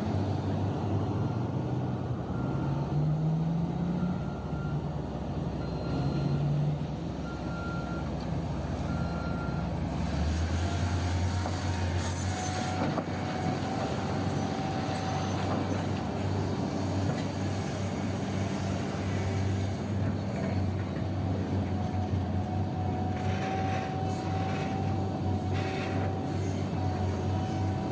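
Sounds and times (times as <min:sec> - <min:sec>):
diesel machinery running: 0:00.0 - 0:27.9.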